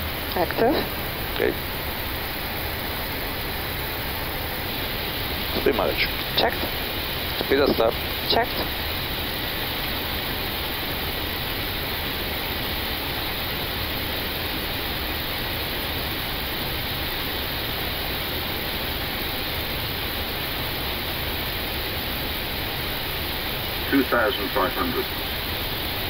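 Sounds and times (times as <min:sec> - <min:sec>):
airflow and cabin air rush: 0:00.0 - 0:26.0.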